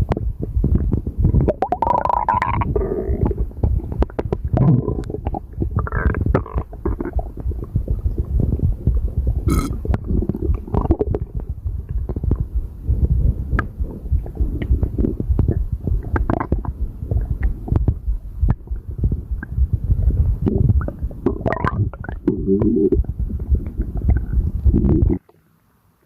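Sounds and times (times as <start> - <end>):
stomach gurgling and rumbling: 0.0 - 25.4.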